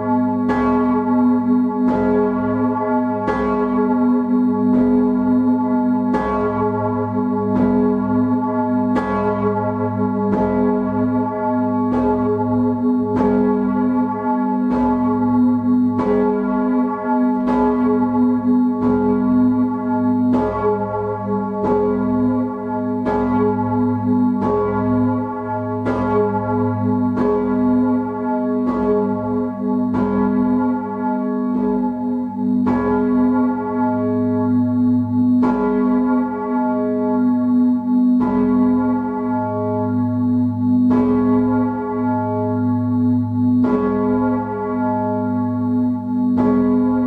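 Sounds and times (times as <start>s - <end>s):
church bell clapper strikes: 0.0s - 47.0s.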